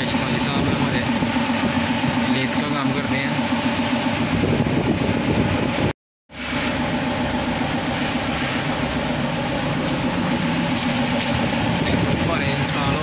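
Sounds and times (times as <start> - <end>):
machine mechanical rumble: 0.0 - 13.0.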